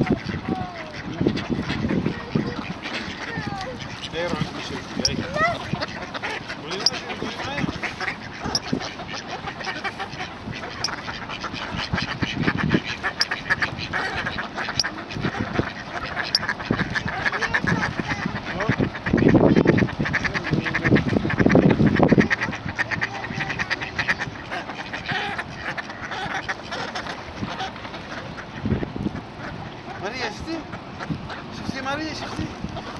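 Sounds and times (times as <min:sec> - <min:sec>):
ducks quacking: 0:00.0 - 0:32.9.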